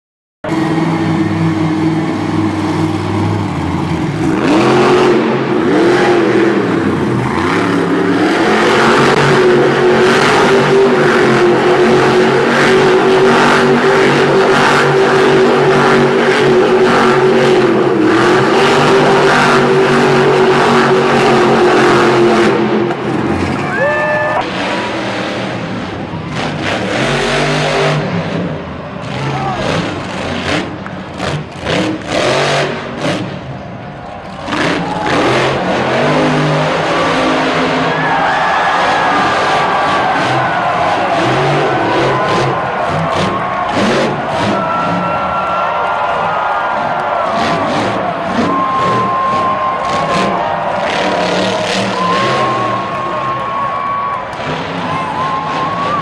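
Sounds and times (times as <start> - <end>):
truck engine at high revs: 0.4 - 56.0.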